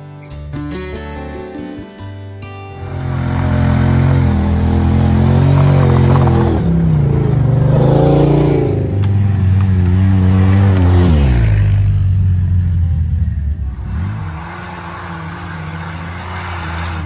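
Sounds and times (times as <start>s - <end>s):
atv engine revving: 2.8s - 17.0s.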